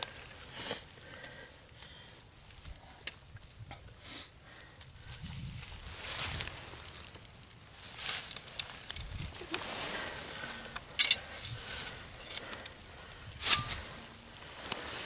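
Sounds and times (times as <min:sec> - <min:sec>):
dry grass rustling: 0:00.0 - 0:15.0.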